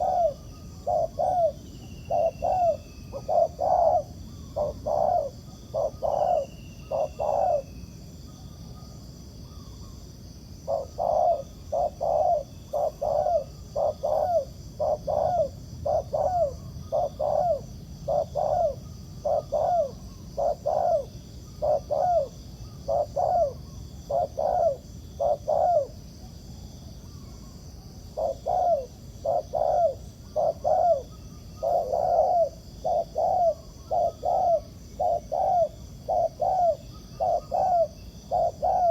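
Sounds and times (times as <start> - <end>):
dove cooing: 0.0 - 7.8, 10.6 - 26.1, 28.1 - 38.9.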